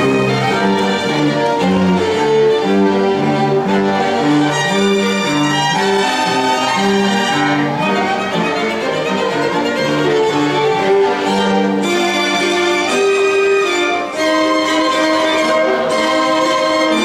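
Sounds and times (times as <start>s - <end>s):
string quartet playing: 0.0s - 17.0s.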